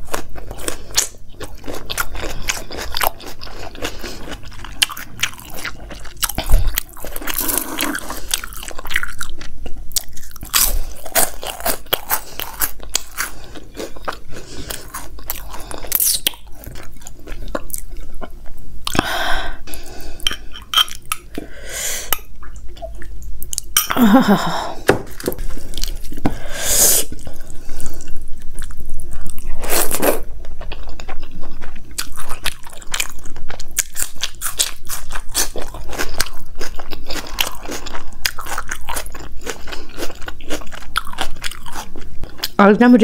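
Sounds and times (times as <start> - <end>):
chewing with crunching: 0.0 - 19.1, 25.1 - 26.4, 27.0 - 42.6.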